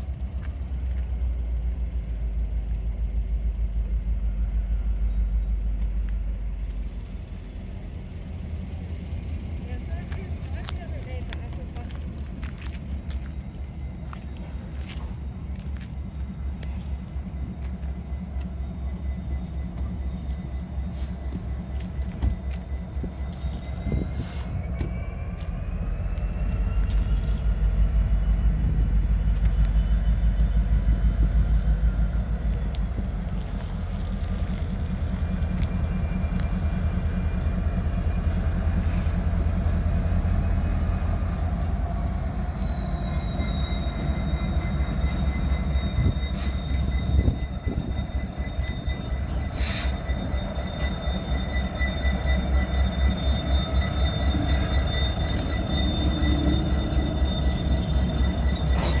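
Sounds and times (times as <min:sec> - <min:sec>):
high wheel squeal: 0:00.0 - 0:59.0
locomotive low rumble: 0:00.0 - 0:59.0.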